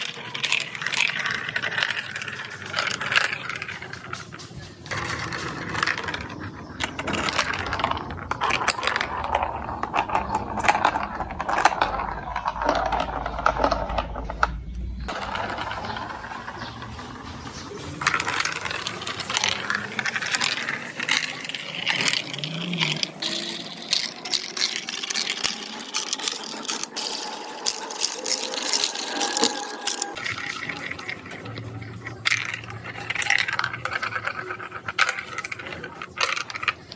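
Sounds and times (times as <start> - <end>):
marbles clattering through marble run: 0.0 - 36.9.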